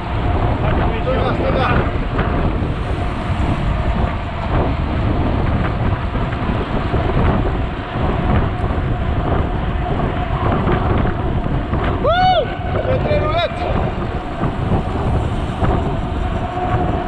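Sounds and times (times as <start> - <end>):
tyres rolling on asphalt: 0.0 - 17.0
wind buffeting microphone: 0.0 - 17.0.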